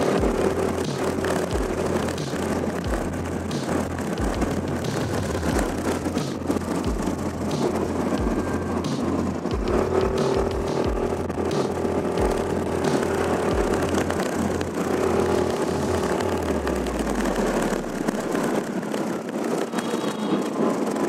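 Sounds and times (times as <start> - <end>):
faint steady whine: 0.0 - 21.0
scooter engine running: 0.0 - 21.0.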